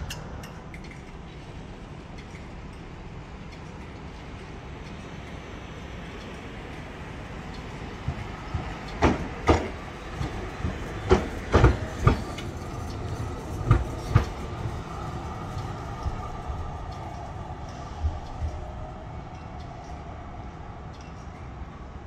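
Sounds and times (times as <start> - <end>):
tram running rumble: 0.0 - 22.0
tram wheels clattering: 0.0 - 22.0.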